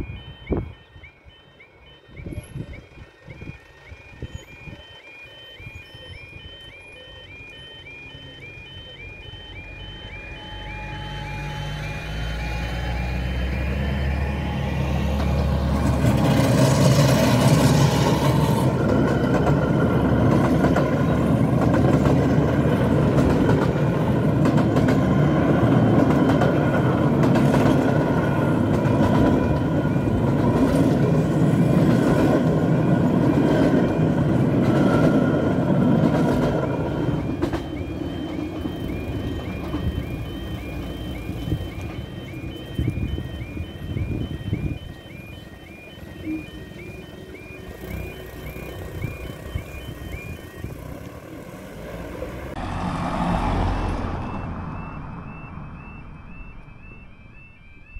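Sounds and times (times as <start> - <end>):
warbling crossing alarm: 0.0 - 57.9
train wheels rumbling on rails: 9.6 - 57.9.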